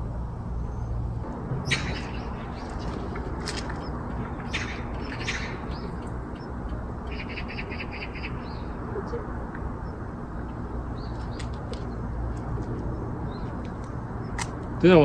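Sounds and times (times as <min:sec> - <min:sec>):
low background rumble: 0:00.0 - 0:15.0
small birds chirping: 0:00.3 - 0:15.0.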